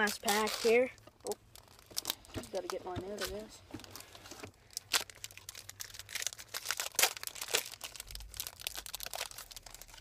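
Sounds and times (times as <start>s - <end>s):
foil wrappers crinkling and tearing: 0.0s - 10.0s.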